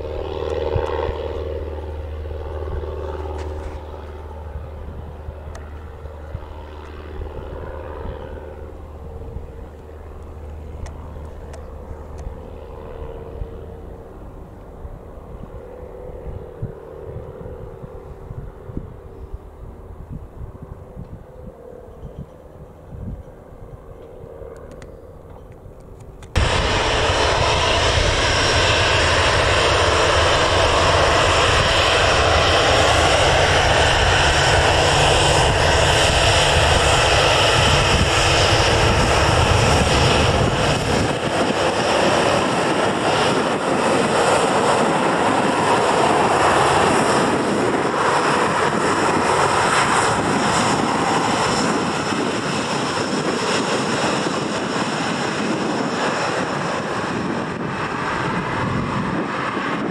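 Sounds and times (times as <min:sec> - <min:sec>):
jet engine deep rumble: 0:00.0 - 0:59.9
jet engine rush: 0:00.0 - 0:59.9
jet engines high whine: 0:00.0 - 0:59.9.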